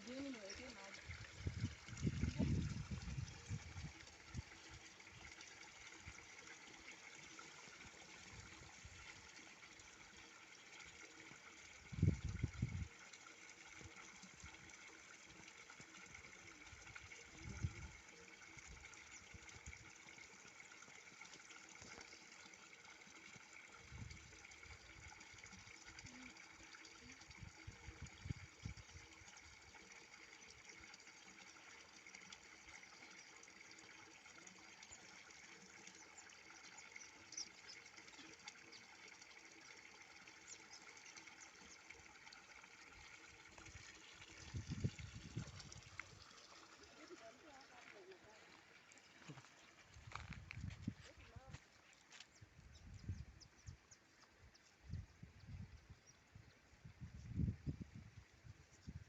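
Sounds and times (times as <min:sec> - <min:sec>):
water running: 0:00.0 - 0:56.1.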